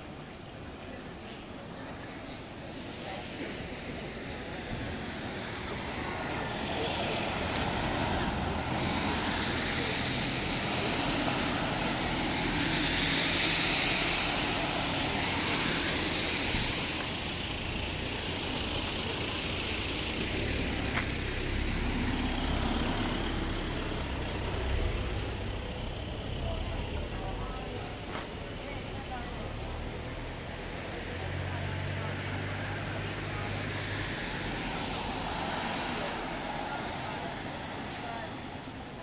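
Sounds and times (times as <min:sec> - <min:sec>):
car engine rumble: 0:00.0 - 0:39.0
car tyres hissing on wet road: 0:00.6 - 0:27.1, 0:27.8 - 0:39.0.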